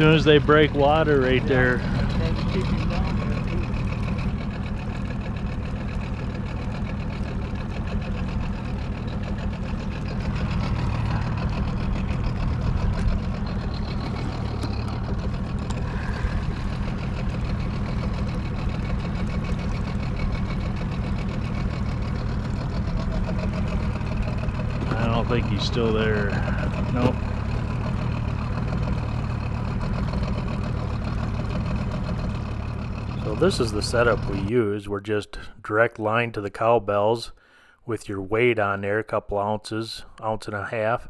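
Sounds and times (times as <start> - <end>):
boat motor running: 0.0 - 34.6.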